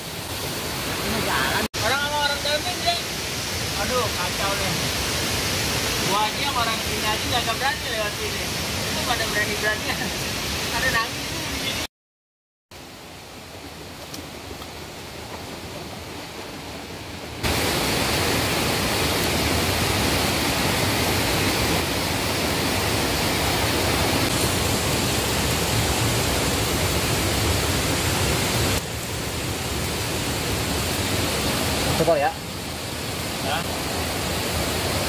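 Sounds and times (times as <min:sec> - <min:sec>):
water flowing over rocks: 0:00.0 - 0:11.9, 0:12.7 - 0:35.0.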